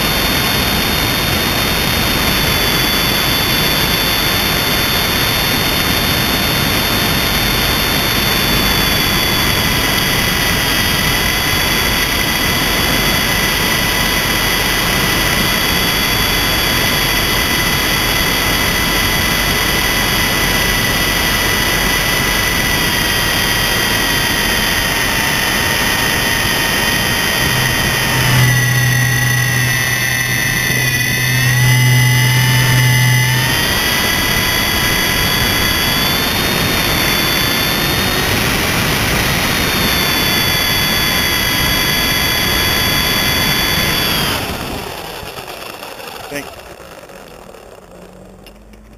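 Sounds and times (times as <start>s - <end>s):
low hum: 0.0s - 48.9s
rc helicopter motor whining: 0.0s - 48.9s.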